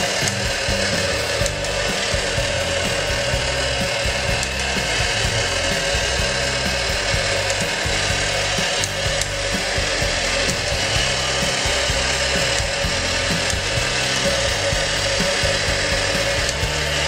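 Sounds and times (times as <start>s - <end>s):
toy motor and gears whirring: 0.0s - 17.0s.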